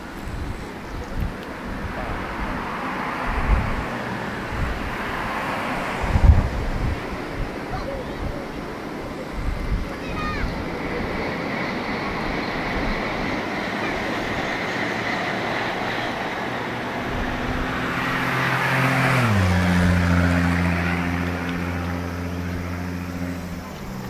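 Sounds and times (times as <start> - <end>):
background rush: 0.0 - 24.0
vehicle passing by: 1.0 - 24.0.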